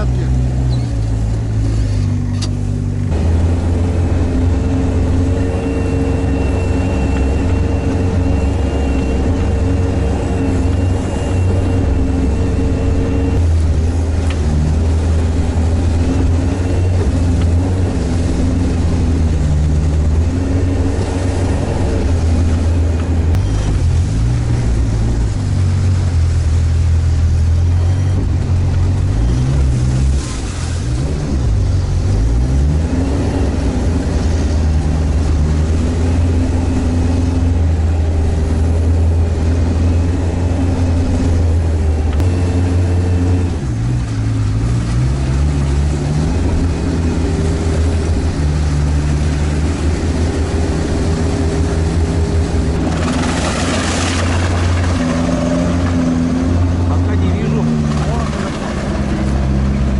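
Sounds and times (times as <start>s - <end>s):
diesel engine drone: 0.0s - 59.9s.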